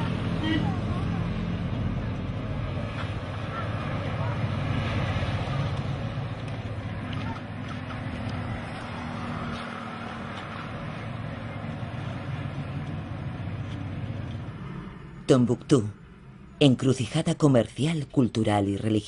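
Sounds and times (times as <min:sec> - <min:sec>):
constant wash of street noise: 0:00.0 - 0:19.0
low rumble of vehicle engines: 0:00.0 - 0:19.0.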